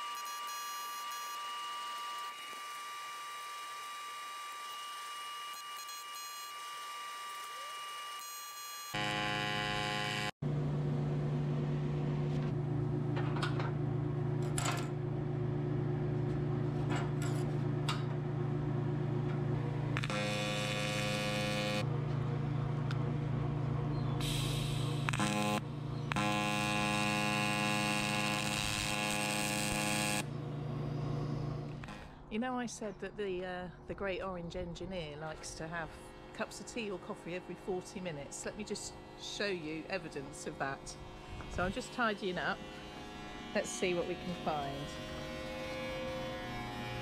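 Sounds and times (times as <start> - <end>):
welder buzzing: 0.0 - 32.3, 35.4 - 47.0.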